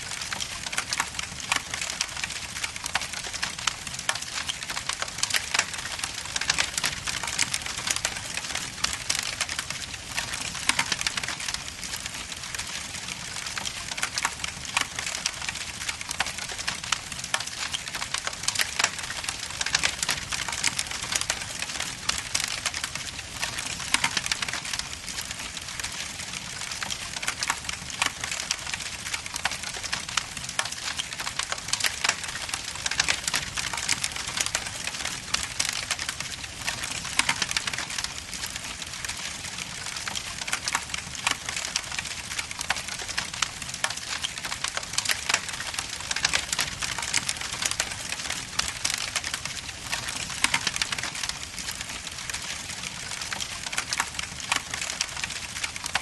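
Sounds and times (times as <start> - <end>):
log fire crackling: 0.0 - 56.0.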